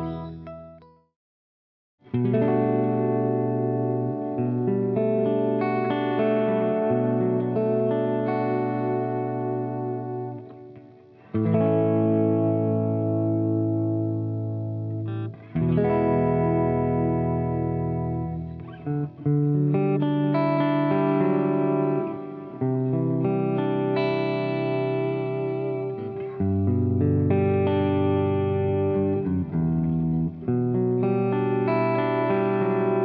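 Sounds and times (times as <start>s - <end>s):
electric guitar chords with delay: 0.0s - 0.8s, 2.1s - 33.0s.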